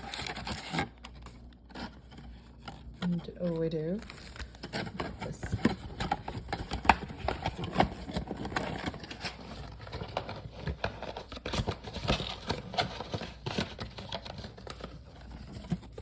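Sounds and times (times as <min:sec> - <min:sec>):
cardboard packs rustling and crinkling: 0:00.0 - 0:16.0.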